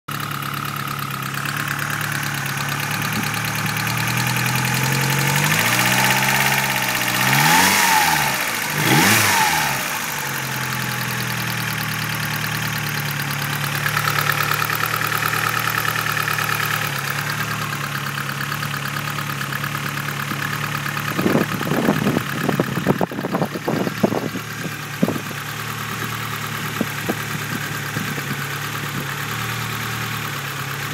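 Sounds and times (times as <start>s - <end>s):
car engine running: 0.1s - 30.9s
loud engine ticking: 0.1s - 30.9s.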